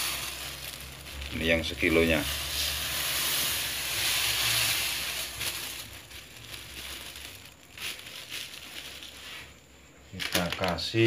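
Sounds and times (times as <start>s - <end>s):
sugar pouring hiss: 0.0s - 9.6s
plastic bag rustling: 0.0s - 11.0s.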